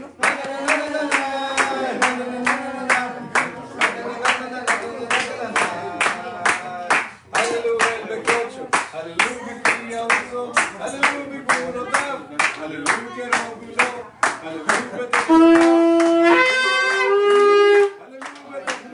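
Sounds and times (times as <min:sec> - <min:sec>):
people singing together: 0:00.0 - 0:15.3
people clapping in rhythm: 0:00.0 - 0:18.9.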